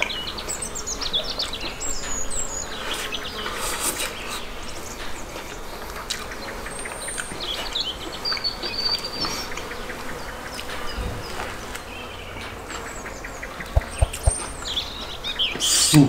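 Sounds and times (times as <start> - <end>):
insect buzz: 0.0 - 16.0
small birds chirping: 0.0 - 16.0.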